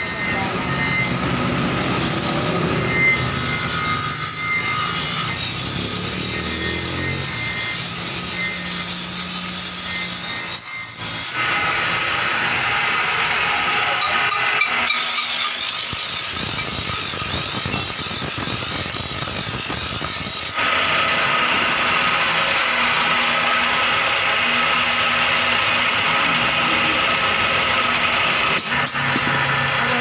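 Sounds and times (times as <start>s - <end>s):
bench grinder grinding blade: 0.0s - 30.0s.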